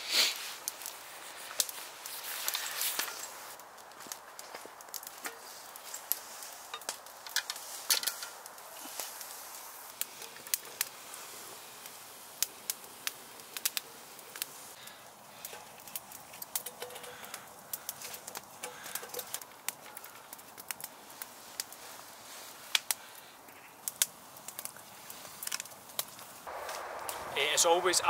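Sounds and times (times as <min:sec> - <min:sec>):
faint hiss: 0:00.0 - 0:04.2, 0:05.0 - 0:28.0
wood fire crackling and popping: 0:00.0 - 0:28.0.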